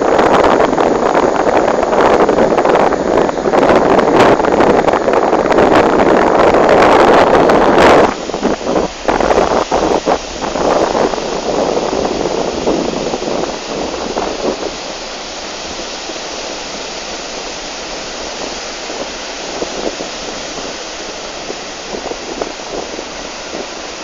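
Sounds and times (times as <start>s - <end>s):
sea surf rushing: 0.0s - 24.0s
wind buffeting microphone: 0.0s - 24.0s.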